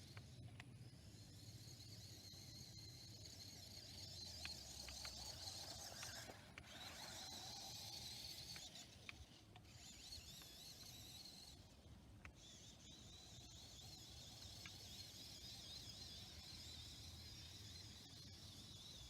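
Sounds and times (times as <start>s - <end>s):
small clicks: 0.0s - 19.0s
small electric motor whining: 0.0s - 19.0s.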